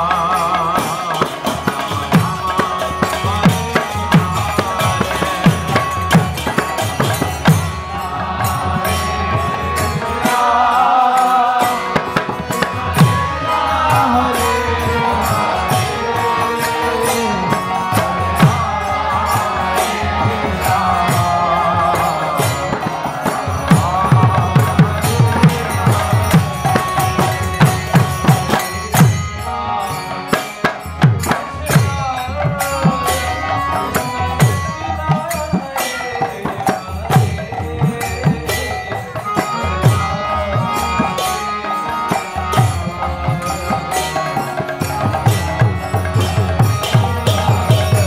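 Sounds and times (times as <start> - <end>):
devotional chant singing: 0.0 - 48.0
small percussion: 0.0 - 48.0.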